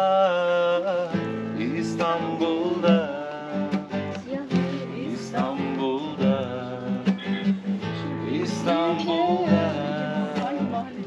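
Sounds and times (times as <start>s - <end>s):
acoustic guitar strumming: 0.0s - 11.0s
voices singing: 0.0s - 11.0s.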